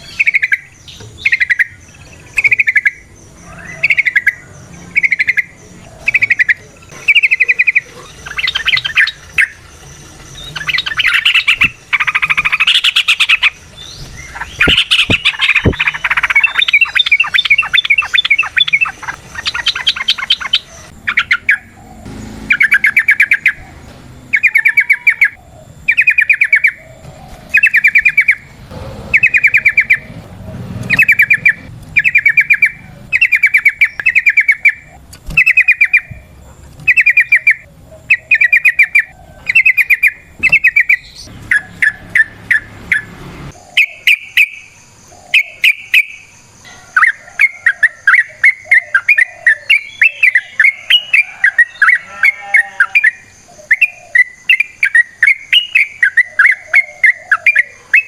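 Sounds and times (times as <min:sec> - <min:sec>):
bird singing bubbling trills: 0:00.0 - 0:28.5, 0:29.1 - 0:30.2, 0:30.9 - 0:43.0, 0:43.6 - 0:58.0.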